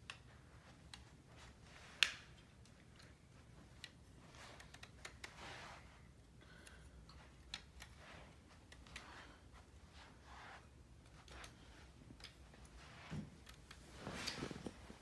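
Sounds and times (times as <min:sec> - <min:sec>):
soft rustle: 0:00.0 - 0:15.0.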